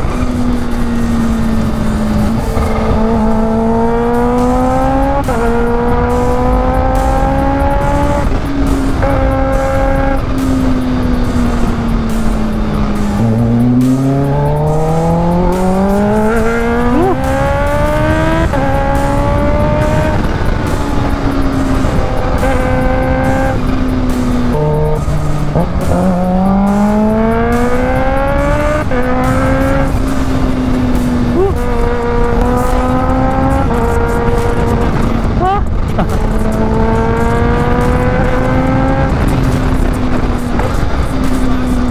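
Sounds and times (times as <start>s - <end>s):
motorcycle engine accelerating: 0.0s - 41.9s
wind rushing: 0.0s - 41.9s.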